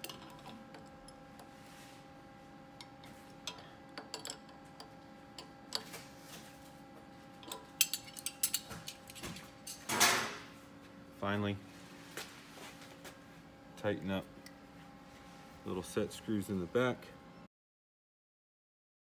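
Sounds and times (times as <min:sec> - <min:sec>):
faint steady hum: 0:00.0 - 0:17.5.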